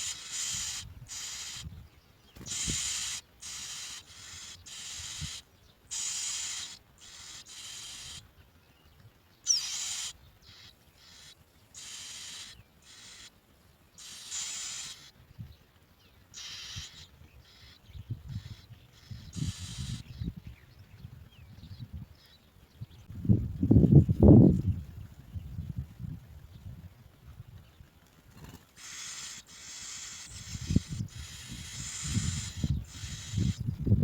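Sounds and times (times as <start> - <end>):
birds giving raspy calls: 0.0 - 23.1, 28.1 - 34.0.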